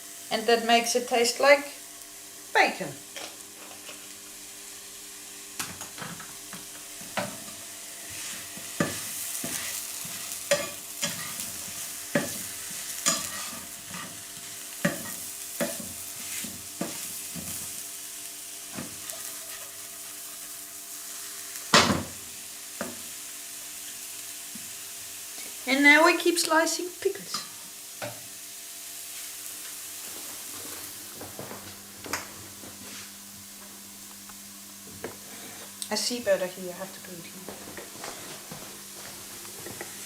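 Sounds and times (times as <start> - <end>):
mushrooms sizzling in a frying pan: 0.0 - 40.0.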